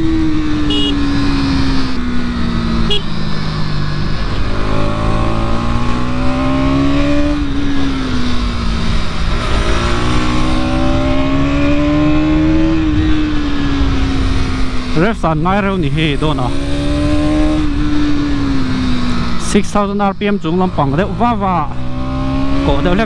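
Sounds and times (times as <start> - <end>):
motorcycle engine revving: 0.0 - 23.0
wind and road noise: 0.0 - 23.0.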